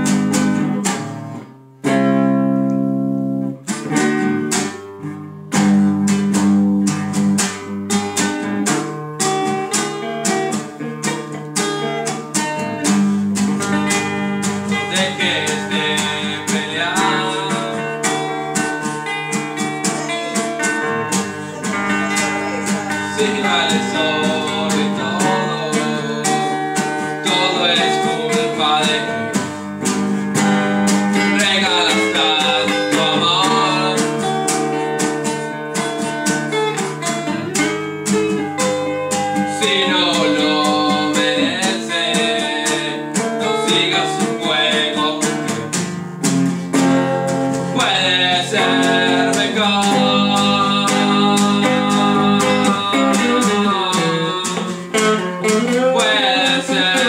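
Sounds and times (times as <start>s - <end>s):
acoustic guitar strumming: 0.0s - 57.0s
electric guitar playing: 0.0s - 57.0s.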